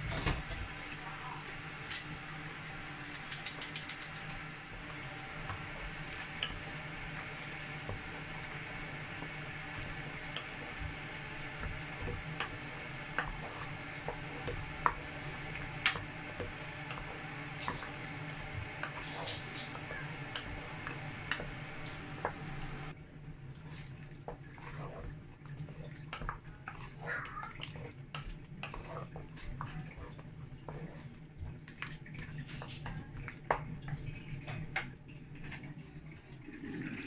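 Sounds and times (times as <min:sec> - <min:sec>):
wet stirring of thick soup: 0:00.5 - 0:37.0.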